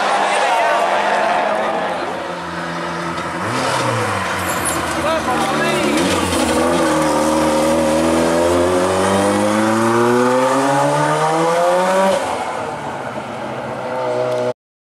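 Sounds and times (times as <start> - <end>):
car engine accelerating hard: 0.0 - 14.5.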